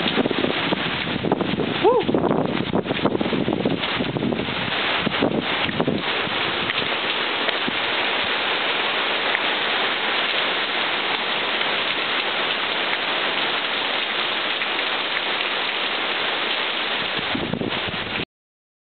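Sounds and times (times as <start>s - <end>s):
heavy rain falling: 0.0s - 18.2s.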